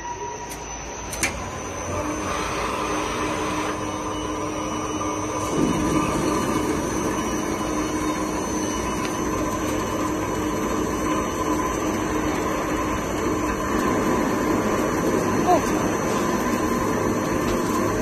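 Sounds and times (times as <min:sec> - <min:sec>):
steady machine tones: 0:00.0 - 0:18.0
lathe machine hum: 0:00.7 - 0:18.0.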